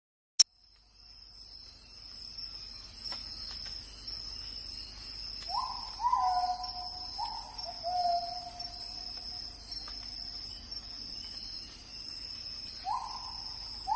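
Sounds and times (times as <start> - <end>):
insects chirping chorus: 0.5 - 13.9.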